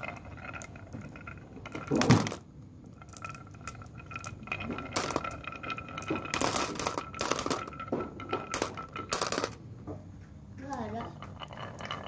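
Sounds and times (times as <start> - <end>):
marbles clattering in plastic cup: 0.0 - 9.6, 10.6 - 12.0
marbles rolling on wooden run: 0.0 - 12.0.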